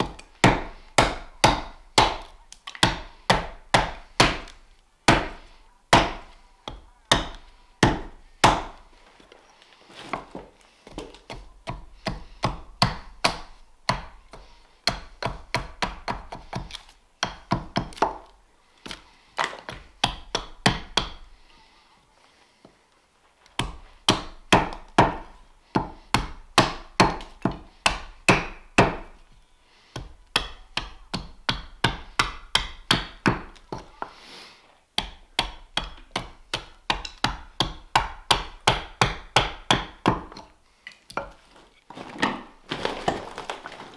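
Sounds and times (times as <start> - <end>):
axe chopping wood: 0.0 - 8.9, 10.2 - 21.3, 23.6 - 29.2, 30.0 - 34.0, 35.0 - 40.5.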